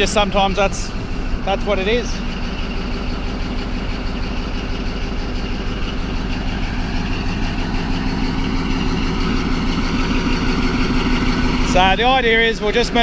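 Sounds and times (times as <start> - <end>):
bulldozer diesel engine idling: 0.0 - 13.0.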